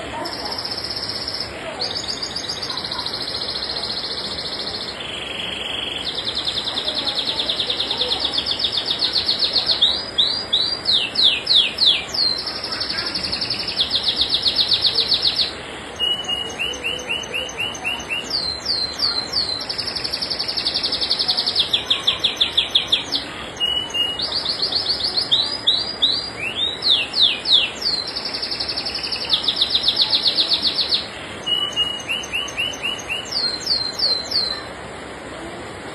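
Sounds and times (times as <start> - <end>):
canary singing trills: 0.0 - 34.7.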